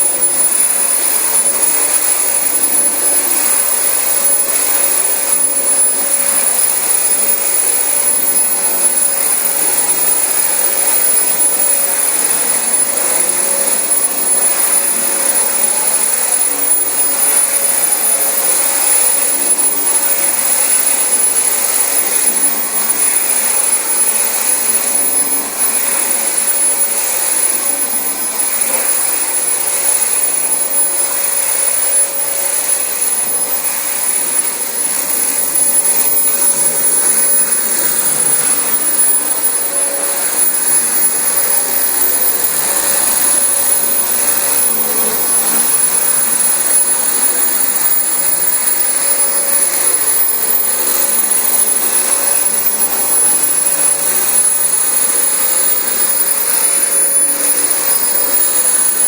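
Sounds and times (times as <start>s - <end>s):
vacuum cleaner running over carpet: 0.0s - 59.0s.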